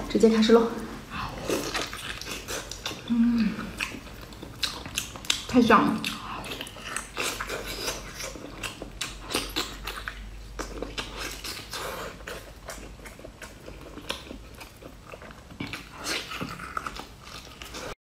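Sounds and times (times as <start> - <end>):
chewing soft food: 1.1 - 18.0.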